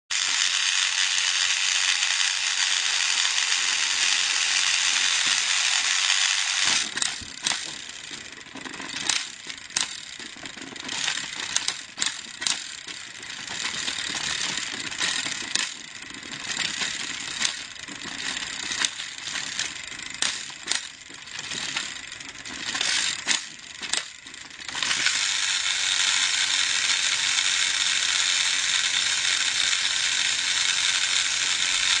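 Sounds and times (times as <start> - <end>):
sharp clicks and clacks: 0.1 - 32.0
toy train motors whirring: 0.1 - 32.0.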